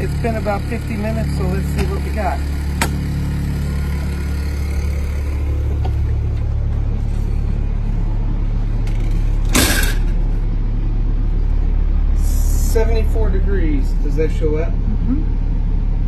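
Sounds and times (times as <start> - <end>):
air conditioners humming: 0.0 - 16.0.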